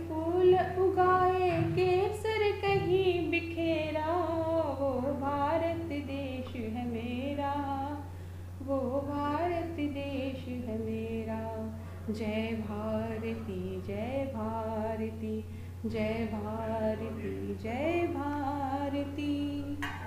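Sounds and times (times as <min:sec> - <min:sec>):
woman singing: 0:00.0 - 0:19.8
steady low hum: 0:00.0 - 0:20.0.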